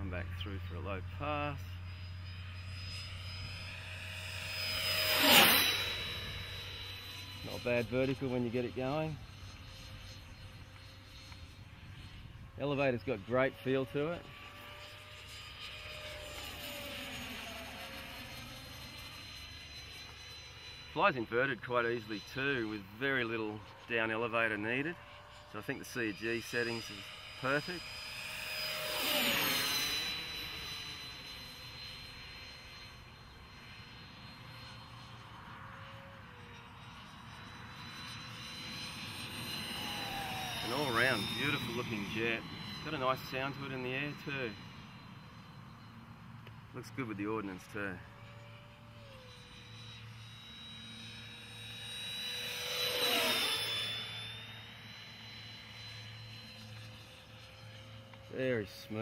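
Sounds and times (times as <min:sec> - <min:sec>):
model jet fan whine: 0:00.0 - 0:59.0.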